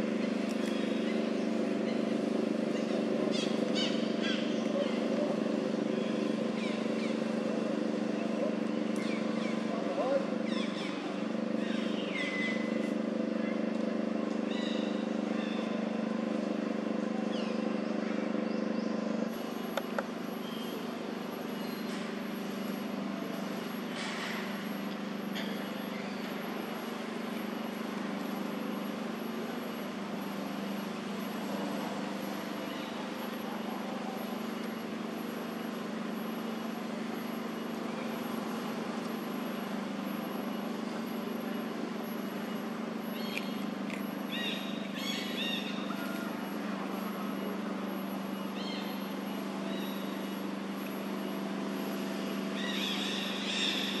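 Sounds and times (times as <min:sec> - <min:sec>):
low even hum: 0:00.0 - 0:54.0.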